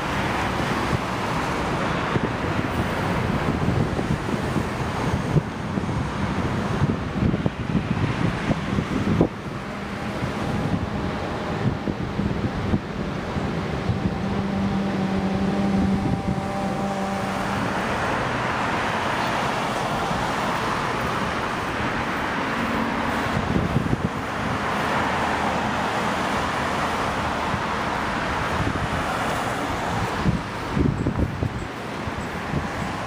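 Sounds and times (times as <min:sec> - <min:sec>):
tyre noise of passing cars: 0:00.0 - 0:33.0
vehicle engine hum: 0:00.0 - 0:33.0.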